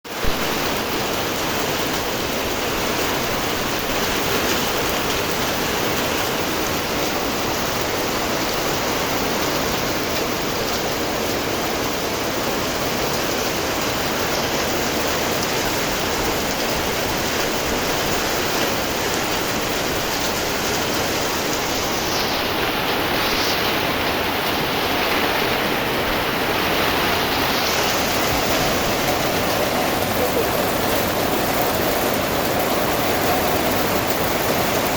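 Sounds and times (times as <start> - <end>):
rain falling steadily: 0.0 - 34.9.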